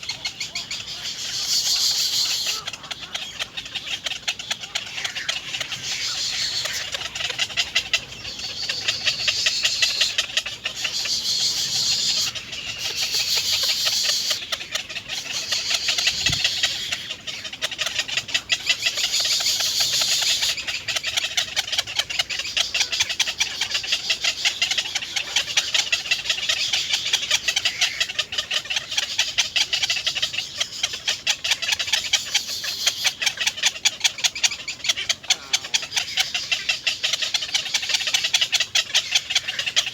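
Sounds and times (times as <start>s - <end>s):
nestlings chirping: 0.0s - 39.9s.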